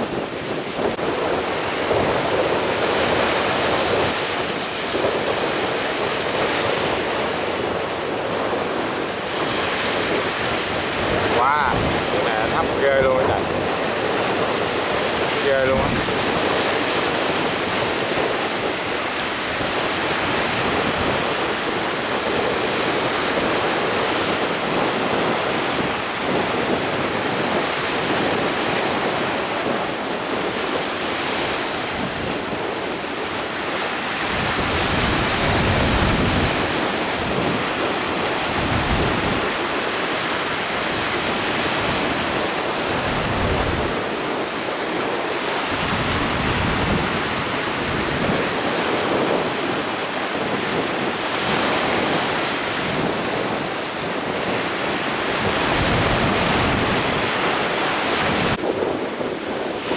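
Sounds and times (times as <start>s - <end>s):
rough sea surf: 0.0s - 59.9s
wind: 0.0s - 59.9s
wind buffeting microphone: 0.0s - 59.9s.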